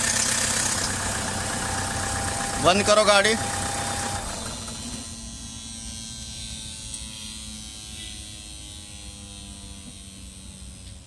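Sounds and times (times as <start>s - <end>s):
electric buzz from engine bay: 0.0s - 11.0s.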